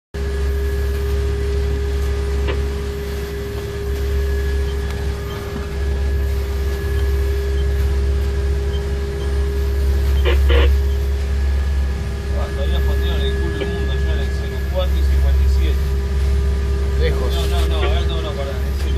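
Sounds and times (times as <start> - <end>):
boat engines droning: 0.2 - 18.9
steady hum: 0.2 - 18.9.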